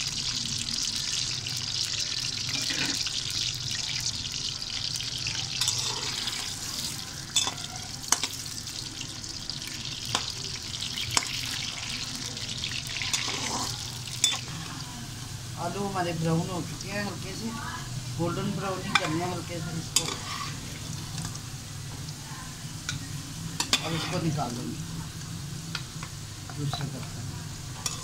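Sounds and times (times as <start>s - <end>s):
potatoes sizzling in a wok: 0.0s - 28.0s.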